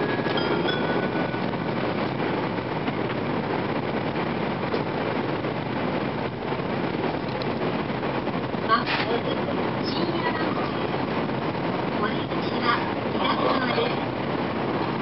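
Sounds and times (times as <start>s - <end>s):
train running noise inside cabin: 0.0s - 15.0s.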